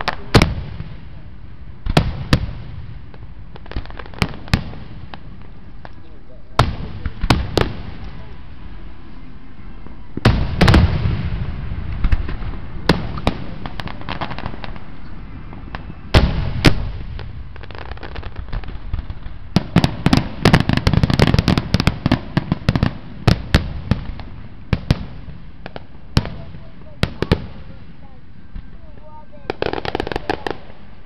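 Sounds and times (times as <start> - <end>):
firework crackles: 0.0 - 31.0.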